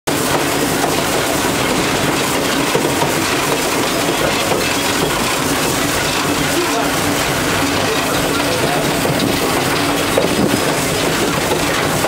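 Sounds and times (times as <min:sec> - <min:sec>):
train wheels rattling on rails: 0:00.1 - 0:12.0.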